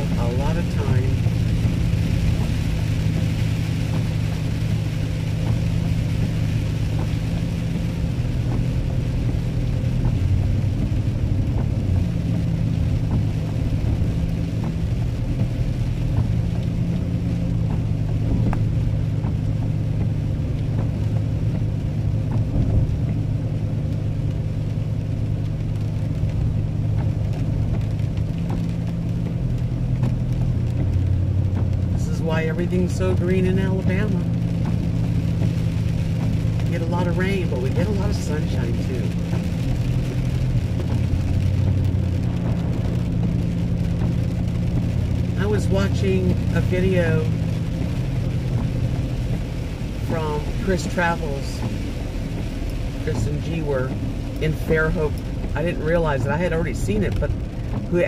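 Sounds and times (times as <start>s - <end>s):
car engine drone: 0.0s - 58.0s
tyres on wet road: 0.0s - 58.0s.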